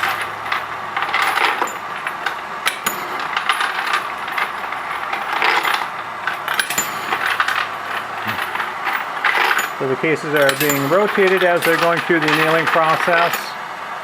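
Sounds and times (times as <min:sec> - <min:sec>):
metal cartridge cases clinking: 0:00.0 - 0:13.6.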